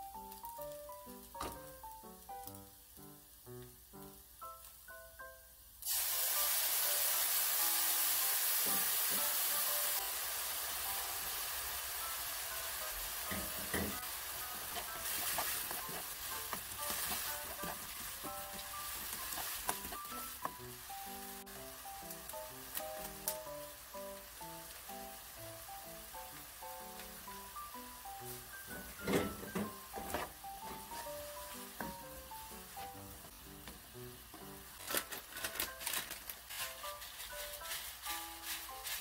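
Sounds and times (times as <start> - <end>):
food sizzling in frying pan: 0.0 - 39.0.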